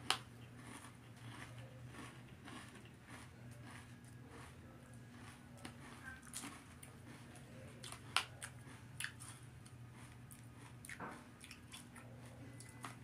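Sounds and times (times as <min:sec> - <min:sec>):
faint low hum: 0:00.0 - 0:13.0
person chewing crunchy cereal: 0:00.0 - 0:13.0.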